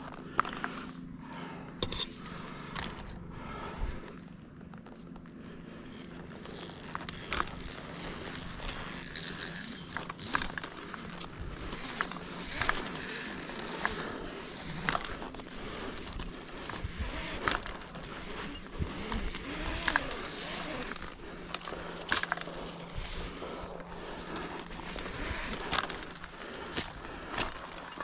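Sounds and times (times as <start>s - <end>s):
rope and metal hardware sliding: 0.0s - 28.0s
sharp clicks and scrapes: 0.3s - 3.3s, 3.9s - 28.0s.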